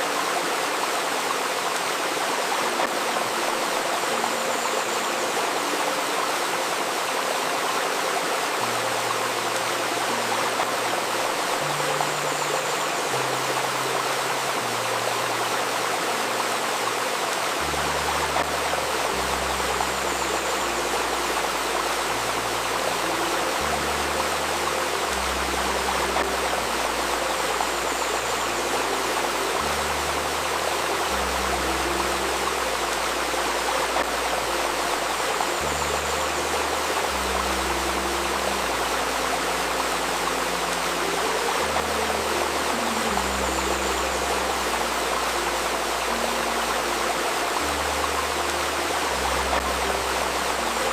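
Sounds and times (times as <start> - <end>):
babbling river water: 0.0 - 50.9
slow low synth notes: 8.5 - 50.9.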